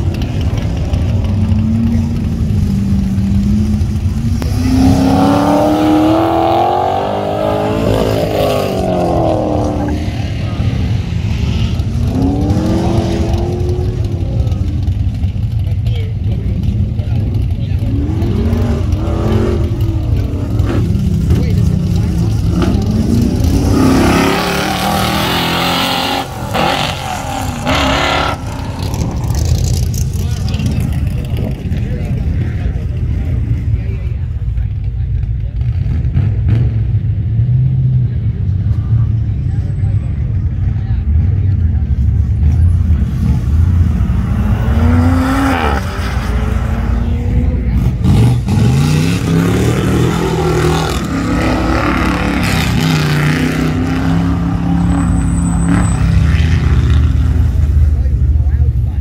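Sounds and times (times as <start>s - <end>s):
sports car engine revving: 0.0s - 33.8s, 41.5s - 58.8s.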